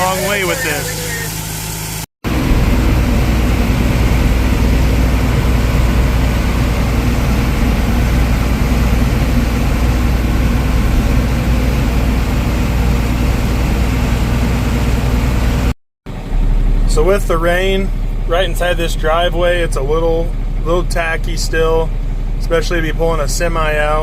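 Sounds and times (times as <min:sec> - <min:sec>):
heavy farm machinery droning: 0:00.0 - 0:24.0.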